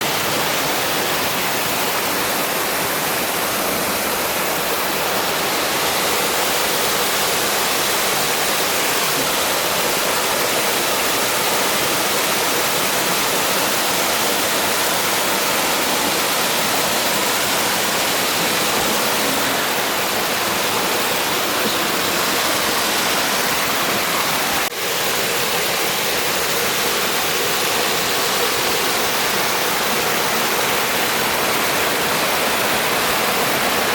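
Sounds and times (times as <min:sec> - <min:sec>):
waterfall rushing roar: 0:00.0 - 0:33.9.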